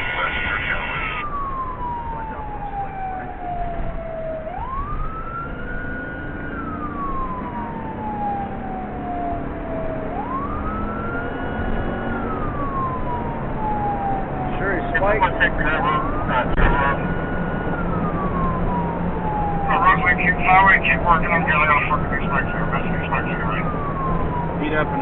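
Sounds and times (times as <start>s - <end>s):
car engine and road noise: 0.0s - 25.0s
police siren wailing: 0.0s - 25.0s.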